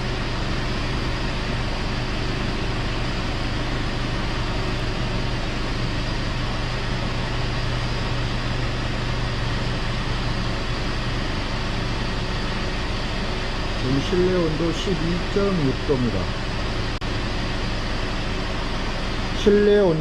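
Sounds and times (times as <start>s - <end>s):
blower fan rushing air: 0.0s - 20.0s
car engine idling: 0.0s - 20.0s.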